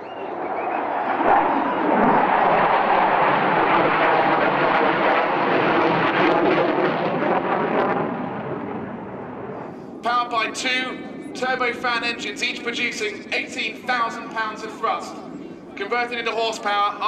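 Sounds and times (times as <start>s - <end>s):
crackling jet rumble: 0.0s - 17.0s.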